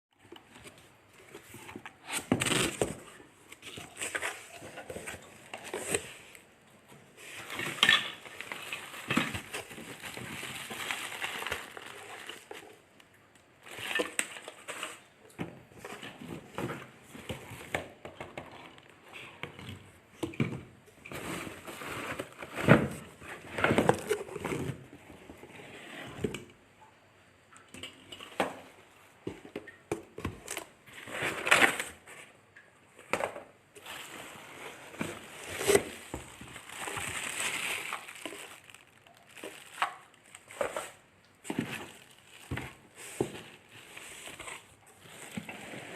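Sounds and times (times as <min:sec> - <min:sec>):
objects rustling and crackling: 0:00.2 - 0:26.6, 0:27.6 - 0:45.9.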